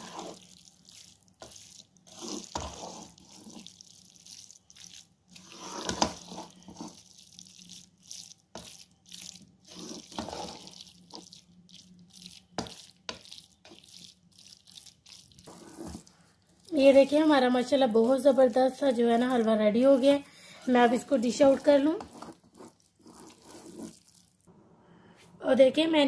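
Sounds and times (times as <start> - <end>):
spoon stirring in cooking pot: 0.0 - 18.8, 19.4 - 24.3.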